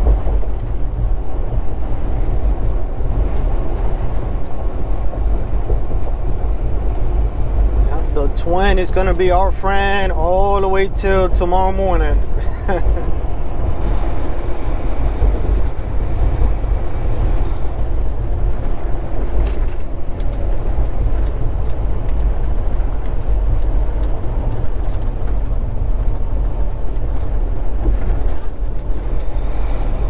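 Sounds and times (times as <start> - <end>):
road noise: 0.0 - 30.0
truck engine drone: 0.0 - 30.0.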